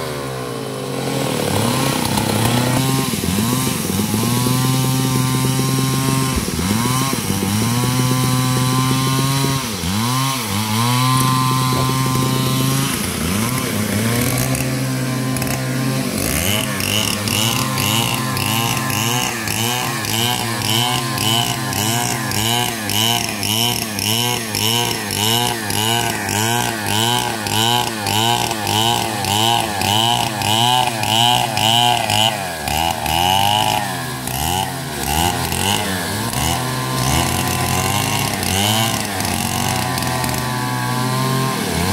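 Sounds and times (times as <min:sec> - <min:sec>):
chainsaw cutting through log: 0:00.0 - 0:41.9.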